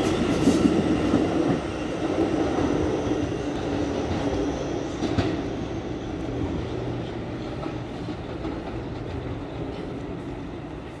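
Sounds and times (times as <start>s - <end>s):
subway train pulling away: 0.0s - 11.0s.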